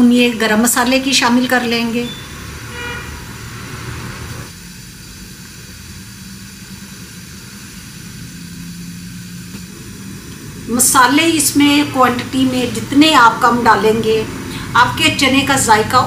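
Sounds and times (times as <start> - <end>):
gas stove burner rumble: 0.1 - 16.0.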